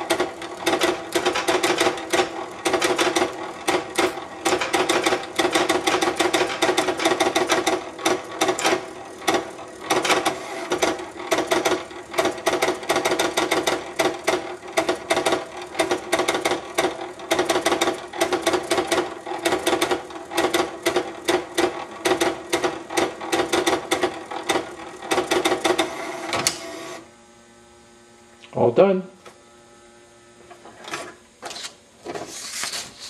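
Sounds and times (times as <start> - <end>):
pen plotter motors whirring and clicking: 0.0 - 27.0.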